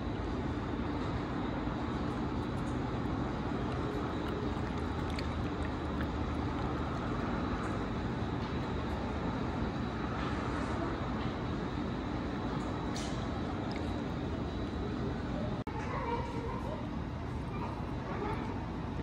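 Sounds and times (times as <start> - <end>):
machine hum: 0.0 - 15.6.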